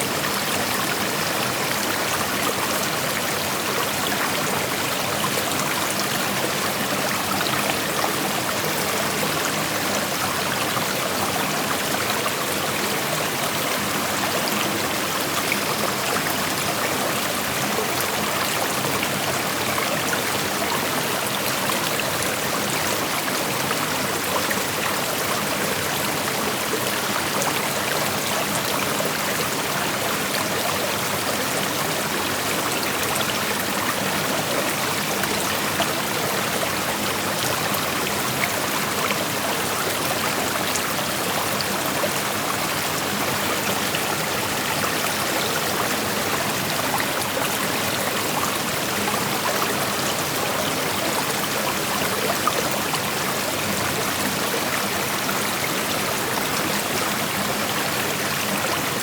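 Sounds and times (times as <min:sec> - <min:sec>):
creek flowing over stones: 0:00.0 - 0:59.0.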